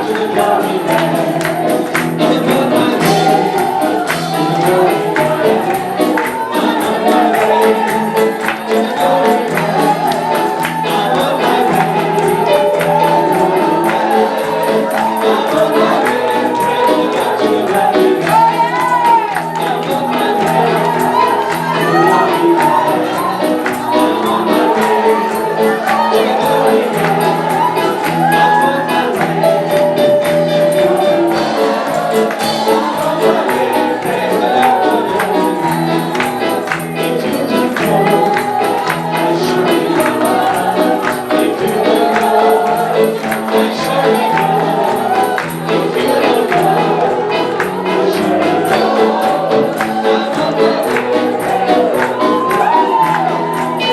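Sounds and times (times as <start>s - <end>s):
group of voices singing: 0.0s - 53.9s
tambourine shaken: 0.0s - 53.9s.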